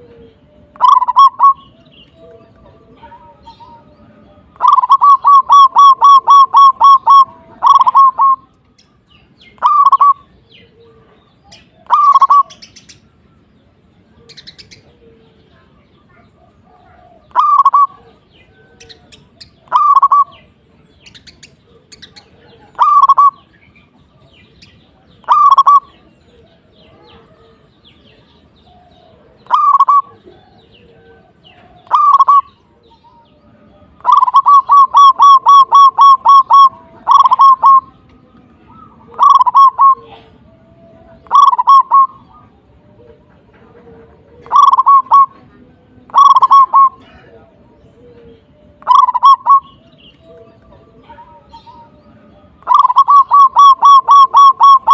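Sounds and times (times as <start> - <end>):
dove cooing: 0.0 - 8.5, 9.5 - 12.8, 14.1 - 23.5, 25.0 - 54.9.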